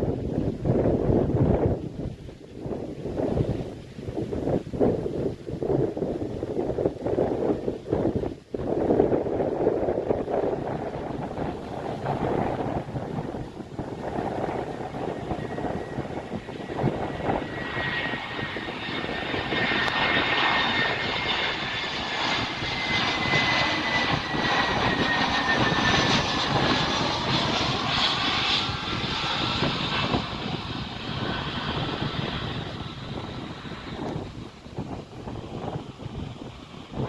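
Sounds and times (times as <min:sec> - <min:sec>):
jet engine high whine: 0:00.0 - 0:37.0
jet engines rumbling: 0:00.0 - 0:37.0.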